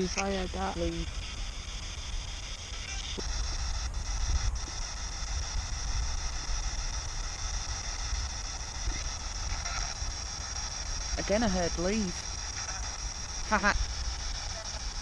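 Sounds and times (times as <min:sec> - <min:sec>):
low rumble: 0:00.0 - 0:15.0
radio static hiss: 0:00.0 - 0:15.0.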